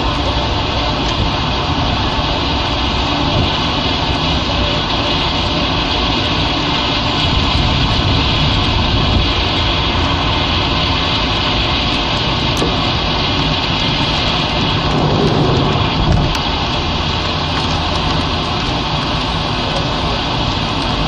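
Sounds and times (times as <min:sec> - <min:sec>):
heavy rain roaring: 0:00.0 - 0:21.0.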